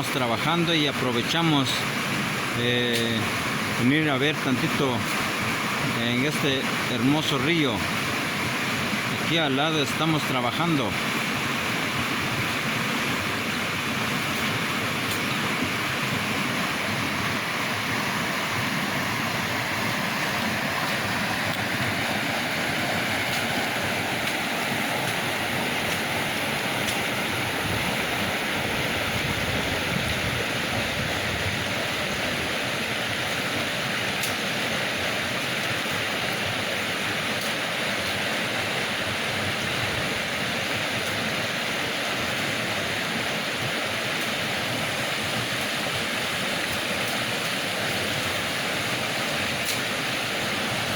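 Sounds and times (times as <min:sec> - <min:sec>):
river water rushing and splashing: 0:00.0 - 0:50.9.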